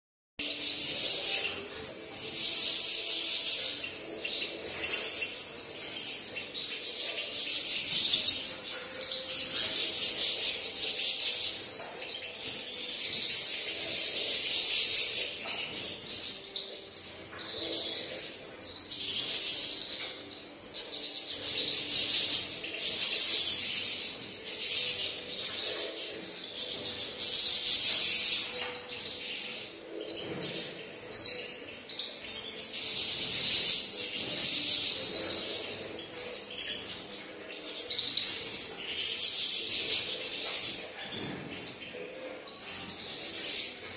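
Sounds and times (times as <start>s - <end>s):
birds twittering: 0.4s - 43.9s.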